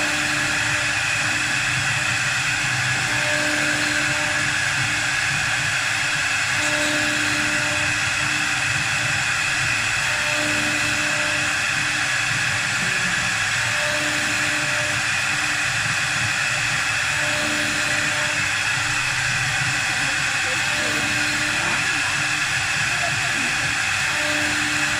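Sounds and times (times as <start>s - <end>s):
lathe hum: 0.0s - 24.9s
wood lathe cutting spinning wood: 0.0s - 24.9s.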